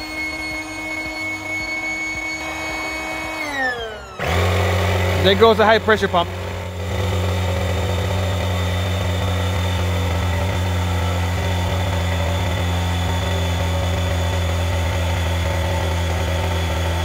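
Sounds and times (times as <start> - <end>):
electric air pump humming: 0.0 - 17.0.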